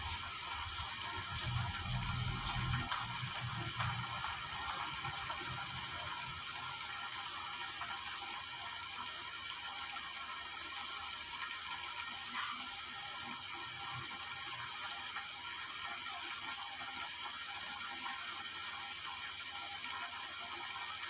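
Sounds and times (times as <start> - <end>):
food simmering in a wok: 0.0 - 21.0.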